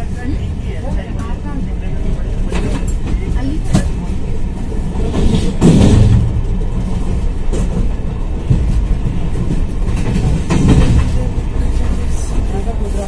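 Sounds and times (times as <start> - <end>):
train coach rumbling: 0.0 - 13.0
wheels clacking over rail joints: 0.8 - 13.0.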